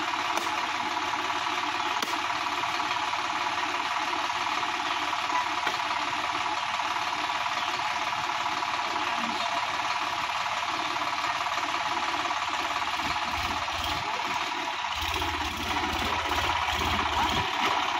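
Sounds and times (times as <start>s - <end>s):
tractor diesel engine idling: 0.0s - 17.9s.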